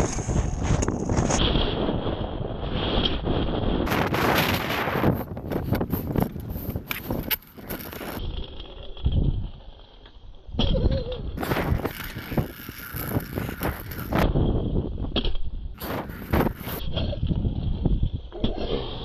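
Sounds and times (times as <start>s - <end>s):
scooter wheels rolling on concrete: 0.0s - 19.0s.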